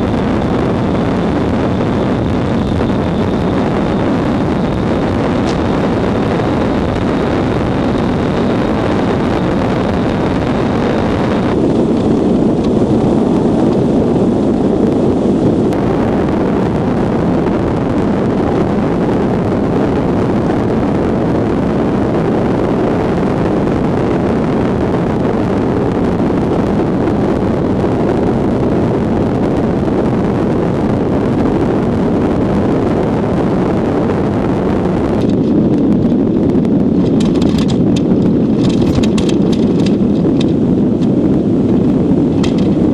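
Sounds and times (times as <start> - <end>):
faint high whine: 0.0 - 35.9
wind buffeting microphone: 0.0 - 42.9.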